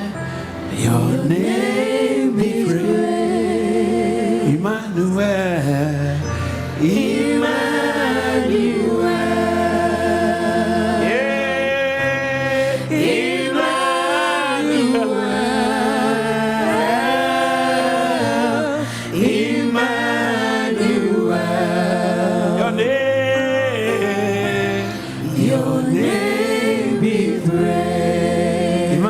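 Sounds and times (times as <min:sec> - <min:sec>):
voices singing with vibrato: 0:00.0 - 0:29.0.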